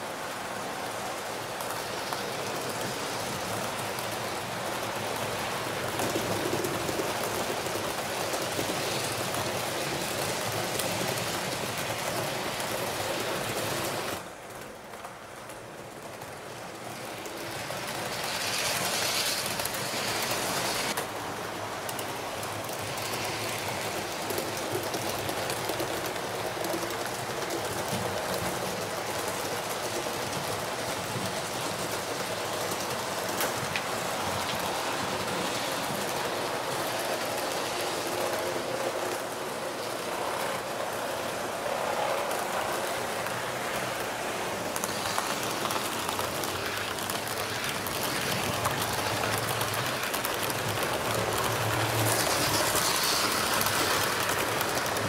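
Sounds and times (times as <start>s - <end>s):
model train wheels rattling: 1.6s - 55.0s.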